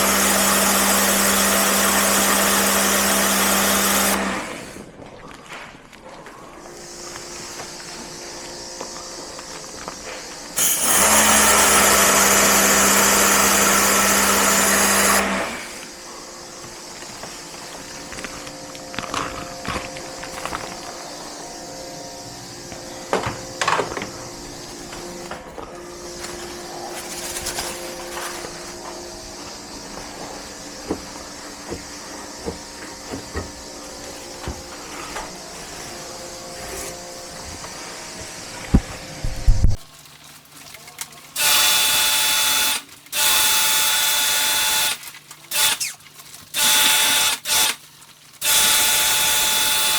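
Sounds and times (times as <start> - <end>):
cleaning machine running: 0.0 - 5.0, 6.4 - 49.9.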